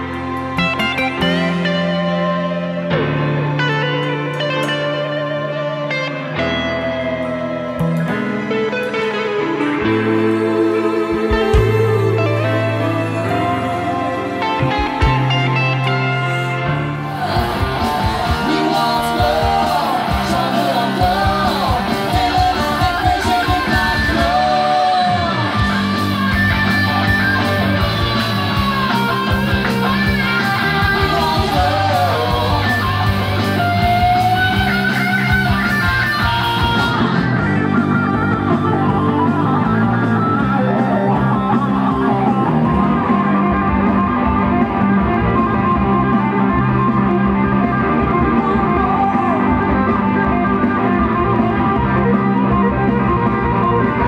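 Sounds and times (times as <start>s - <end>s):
rock song with singing: 0.0s - 54.0s.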